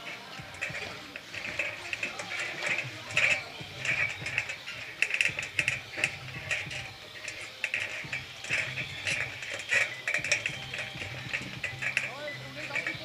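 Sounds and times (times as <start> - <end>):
electric motor and gear whine: 0.0 - 13.0
low steady hum: 0.0 - 13.0
toy cars clicking and clattering: 0.0 - 13.0.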